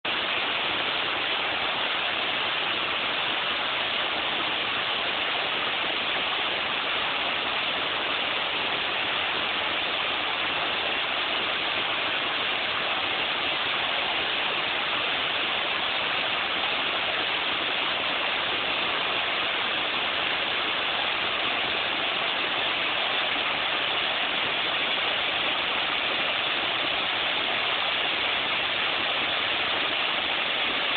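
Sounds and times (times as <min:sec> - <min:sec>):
waterfall pouring onto rocks: 0:00.1 - 0:30.9.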